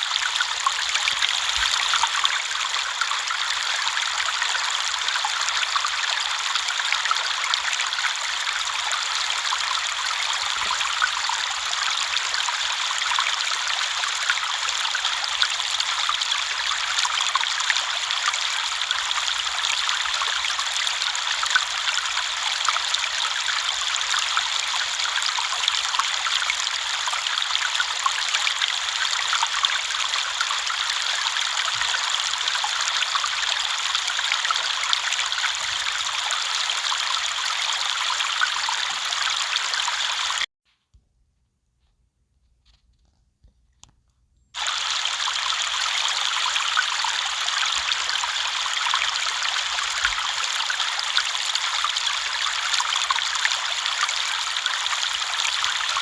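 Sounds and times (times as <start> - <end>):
river water flowing: 0.0 - 40.5, 44.6 - 56.0.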